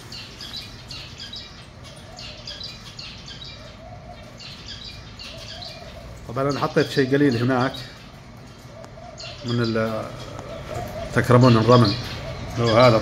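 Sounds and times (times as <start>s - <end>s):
birds chirping: 0.0s - 13.0s
lower drawn-out bird calls: 0.0s - 13.0s.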